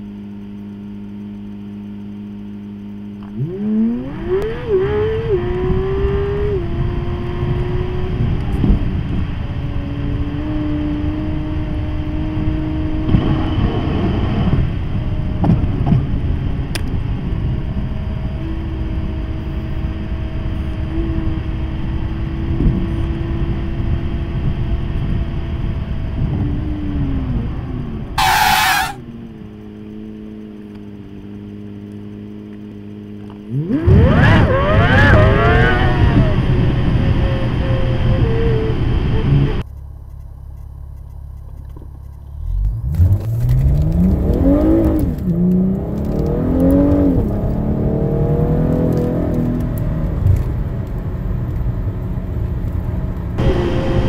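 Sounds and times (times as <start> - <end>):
car engine revving: 0.0 - 39.7, 41.7 - 54.0.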